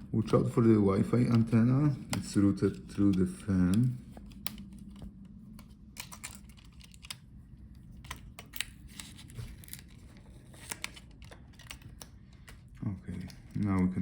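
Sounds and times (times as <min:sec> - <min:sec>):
faint cable crinkling: 0:01.1 - 0:14.0.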